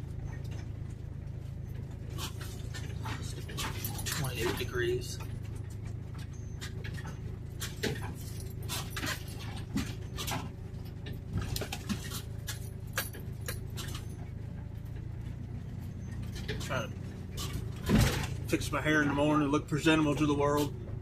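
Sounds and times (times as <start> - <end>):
van engine running: 0.0 - 21.0.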